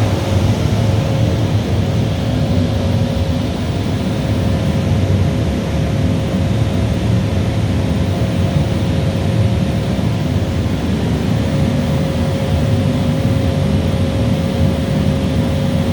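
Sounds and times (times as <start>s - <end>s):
steady tone: 0.0s - 5.1s, 6.1s - 15.9s
boiler plant low rumble: 0.0s - 15.9s.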